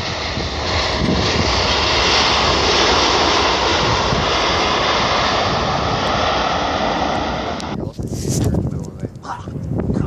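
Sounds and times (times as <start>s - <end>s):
jet engines rushing: 0.0s - 10.0s.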